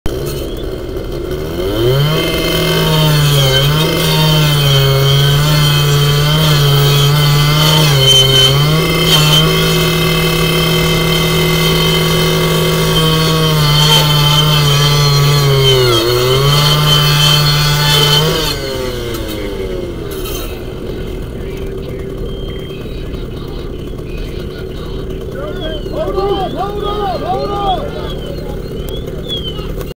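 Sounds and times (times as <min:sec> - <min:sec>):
power saw cutting at high revs: 0:00.1 - 0:30.0.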